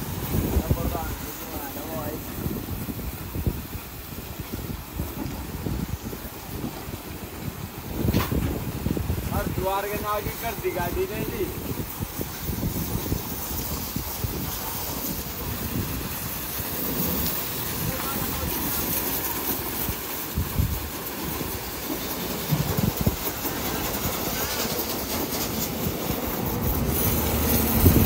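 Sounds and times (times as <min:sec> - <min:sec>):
high-pressure water jet hissing: 0:00.0 - 0:28.0.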